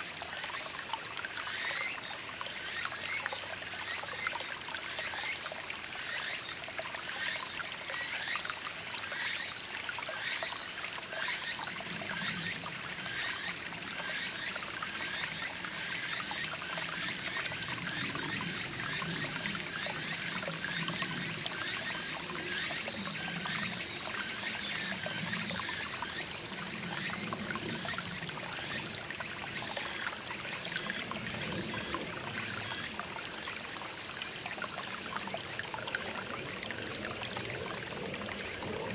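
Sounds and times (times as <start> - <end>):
high insect drone: 0.0 - 8.5, 11.4 - 38.9
stream trickling and babbling: 0.0 - 38.9.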